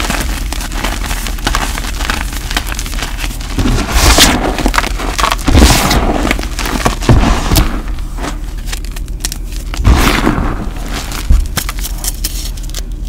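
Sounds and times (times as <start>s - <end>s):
hands crushing chalk: 0.0s - 13.0s.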